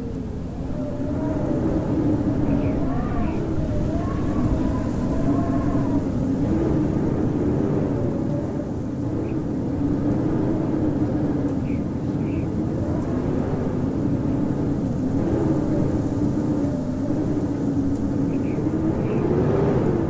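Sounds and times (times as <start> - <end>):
howling wind: 0.0 - 20.0.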